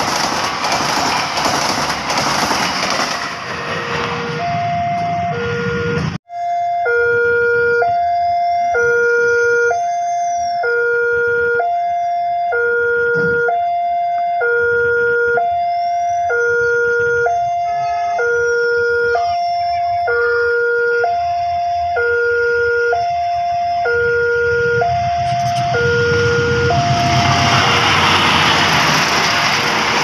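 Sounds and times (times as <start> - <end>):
level crossing two-tone alarm: 3.4 - 28.4.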